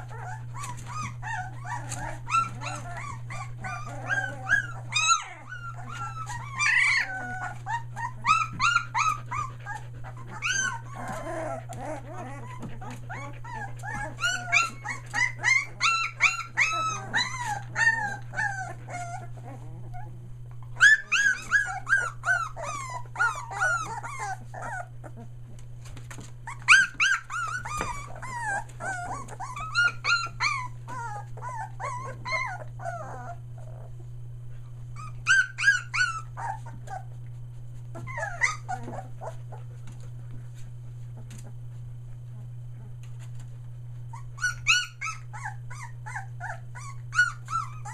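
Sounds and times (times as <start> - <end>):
puppies whining and yelping: 0.0 - 34.2, 34.8 - 41.8, 43.3 - 47.9
steady low hum: 0.0 - 47.9.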